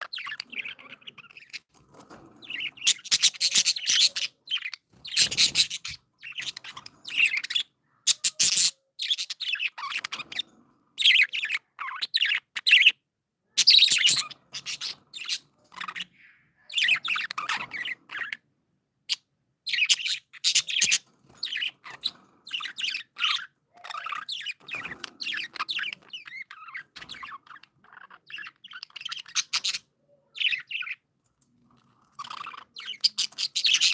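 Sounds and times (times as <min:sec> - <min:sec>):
budgerigars chirping: 0:00.0 - 0:13.0, 0:13.6 - 0:18.4, 0:19.1 - 0:31.1, 0:31.7 - 0:33.9.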